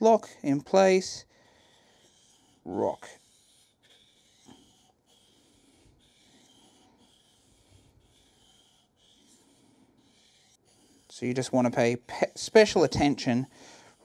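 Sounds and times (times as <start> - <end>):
gouge scraping on whetstone: 1.6 - 14.0.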